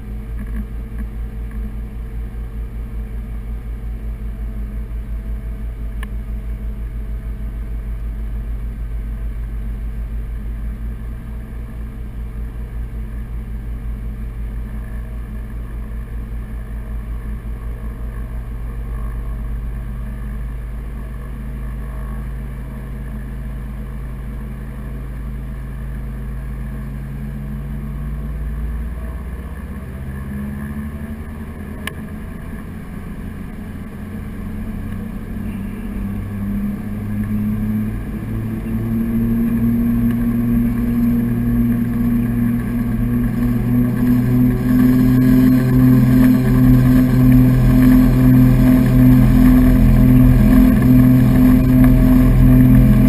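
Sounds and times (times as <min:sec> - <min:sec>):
twin propeller engines throbbing: 0:00.0 - 0:53.0.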